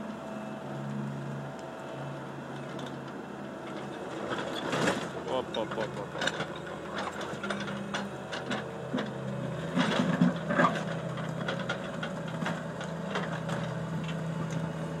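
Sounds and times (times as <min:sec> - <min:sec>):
diesel engine under load: 0:00.0 - 0:15.0
clanks and knocks of excavator: 0:02.4 - 0:15.0.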